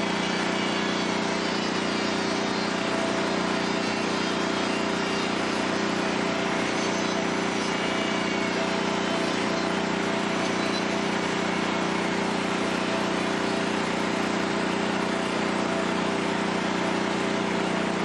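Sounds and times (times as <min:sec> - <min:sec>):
engine driving a generator: 0:00.0 - 0:18.0.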